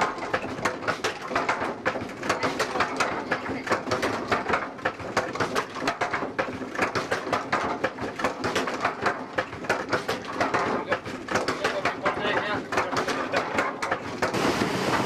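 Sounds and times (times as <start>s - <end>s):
mill machinery knocking and clattering: 0.0s - 15.0s.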